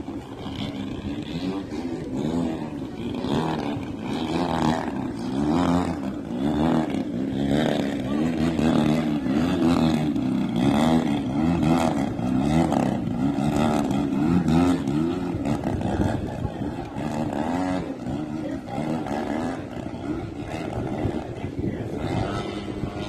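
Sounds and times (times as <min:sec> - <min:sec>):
model airplane engine running: 0:00.0 - 0:23.0.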